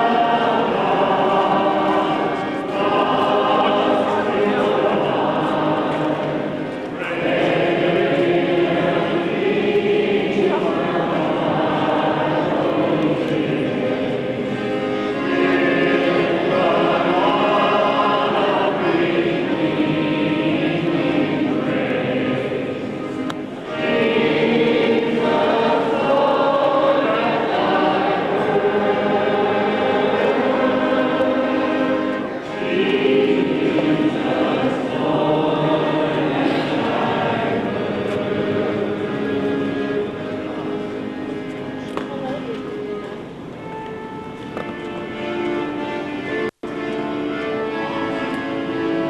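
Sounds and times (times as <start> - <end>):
choir singing in harmony: 0.0 - 41.8, 44.6 - 49.0.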